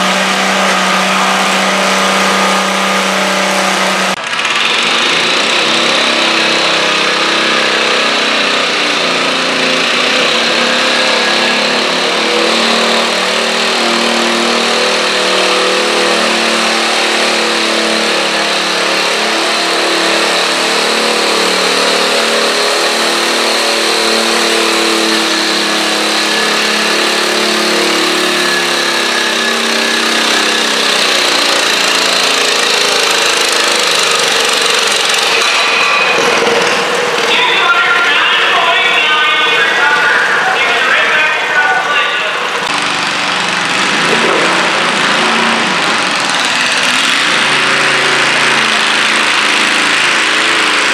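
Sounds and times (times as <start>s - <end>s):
tractor engine running under load: 0.0s - 50.9s.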